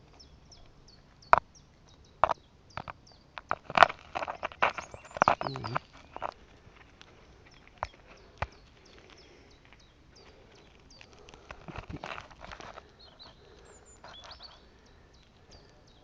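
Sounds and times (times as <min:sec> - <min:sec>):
small bird chirping: 0:00.0 - 0:16.0
hedgehog crunching on gravel: 0:02.2 - 0:16.0.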